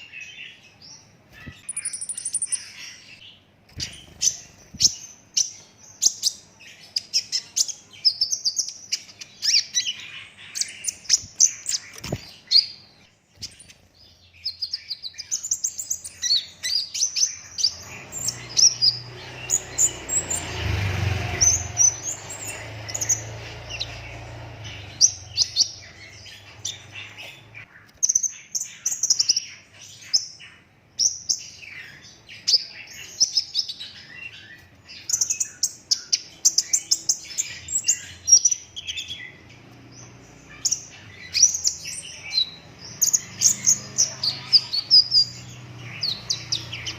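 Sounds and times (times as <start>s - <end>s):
sunbird twittering song: 0.0s - 46.9s.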